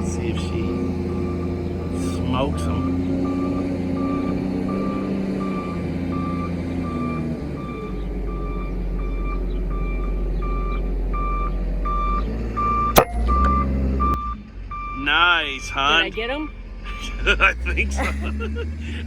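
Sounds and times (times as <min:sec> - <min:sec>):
vehicle reversing alarm beeping: 0:00.0 - 0:17.9.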